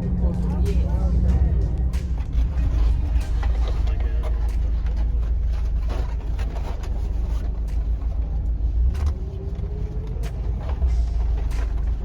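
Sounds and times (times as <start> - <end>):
bus engine and road rumble: 0.0 - 12.0
knocks and rattles: 1.3 - 12.0.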